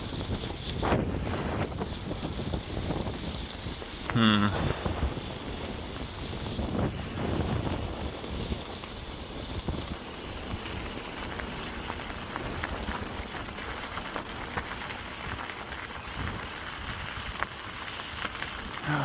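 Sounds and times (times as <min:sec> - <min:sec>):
bike rolling on gravel trail: 0:00.0 - 0:19.0.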